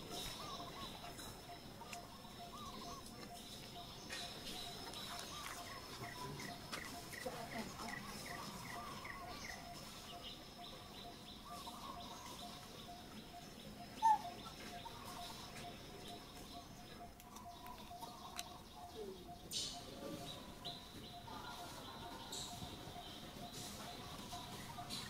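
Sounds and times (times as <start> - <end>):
insects trilling: 0.0 - 25.0
short chirping calls: 0.0 - 25.0.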